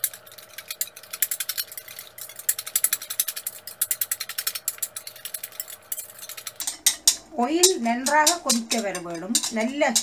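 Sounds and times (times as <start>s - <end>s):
whisk clicking against bowl: 0.0s - 10.0s.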